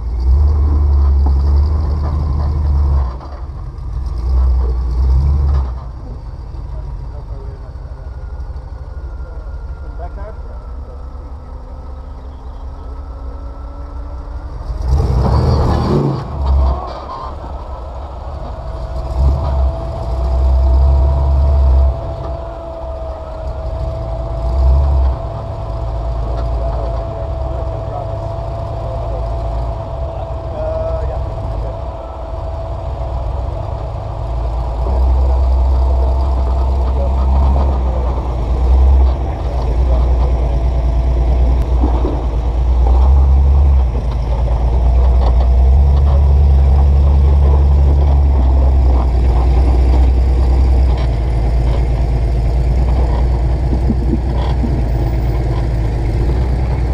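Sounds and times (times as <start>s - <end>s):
engine revving at low revs: 0.0s - 56.9s.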